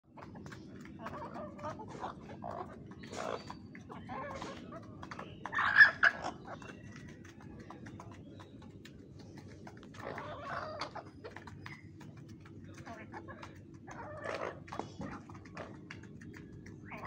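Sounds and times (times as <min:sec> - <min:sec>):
beaks pecking at feed: 0:00.0 - 0:17.0
hens clucking: 0:00.0 - 0:17.0.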